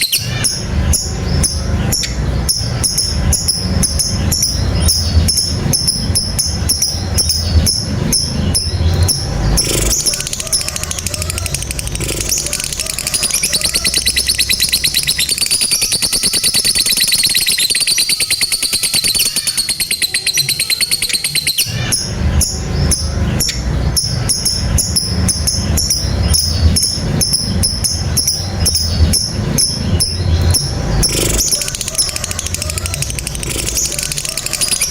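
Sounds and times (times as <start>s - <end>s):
rhythmic beat with low end: 0.0s - 15.6s, 21.6s - 34.9s
bird rattling trill: 0.0s - 34.9s.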